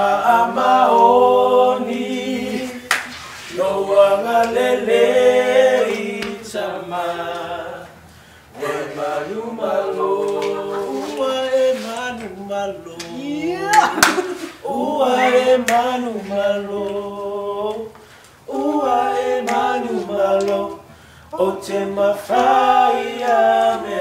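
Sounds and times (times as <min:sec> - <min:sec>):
voices singing unaccompanied: 0:00.0 - 0:24.0.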